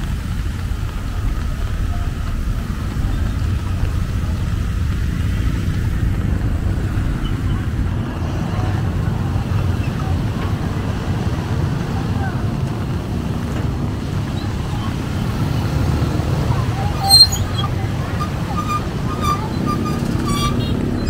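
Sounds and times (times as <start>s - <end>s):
steady low traffic rumble: 0.0s - 21.0s
vehicles passing on wet road: 0.0s - 21.0s.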